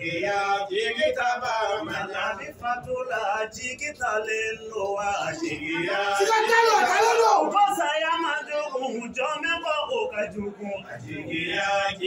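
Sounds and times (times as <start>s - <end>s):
man singing chant-like song: 0.0s - 12.0s.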